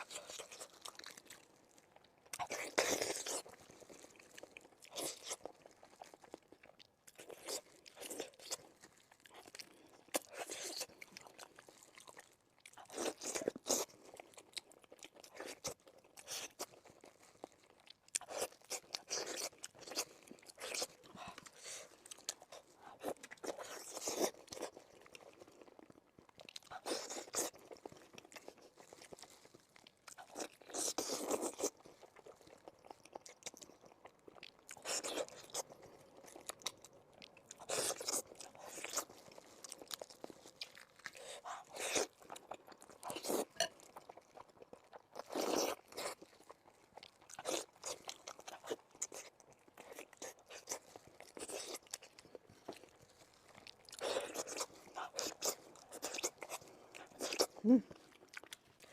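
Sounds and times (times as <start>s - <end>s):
chewing and crunching bones: 0.0s - 58.9s.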